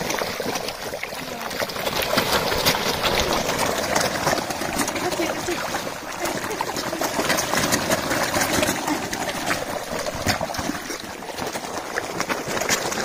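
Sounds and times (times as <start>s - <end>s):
fish splashing water: 0.0s - 13.0s.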